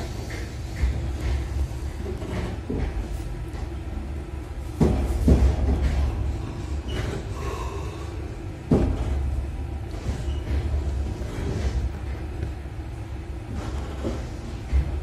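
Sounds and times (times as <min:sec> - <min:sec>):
train carriage rumbling: 0:00.0 - 0:15.0.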